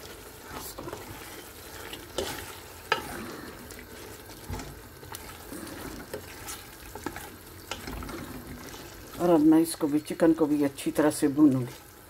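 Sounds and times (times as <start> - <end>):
chicken sizzling while stirred: 0.0 - 12.0.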